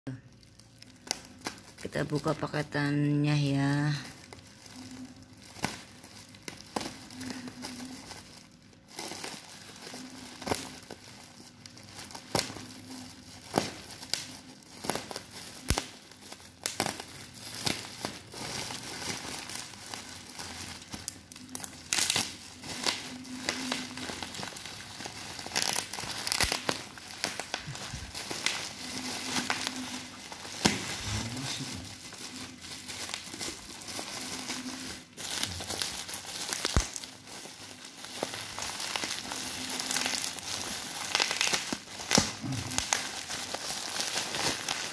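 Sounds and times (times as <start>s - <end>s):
plastic mailer and tape crinkling: 0.1s - 44.9s.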